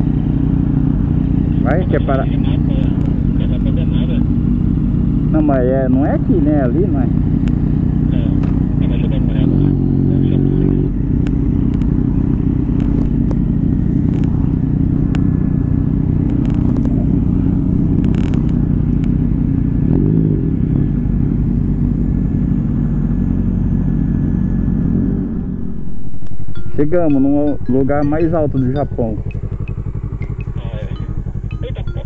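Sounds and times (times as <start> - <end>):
small motorcycle engine running: 0.0 - 32.0.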